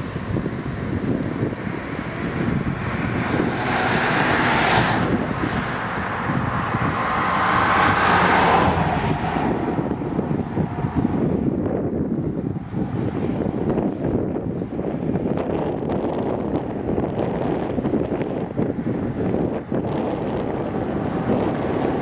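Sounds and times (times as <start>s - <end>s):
rushing wind noise: 0.0s - 22.0s
wind buffeting microphone: 0.0s - 22.0s.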